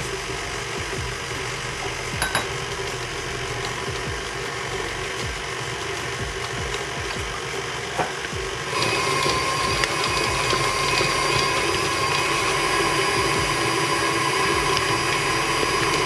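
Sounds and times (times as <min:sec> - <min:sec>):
stand mixer motor whining: 0:00.0 - 0:16.0.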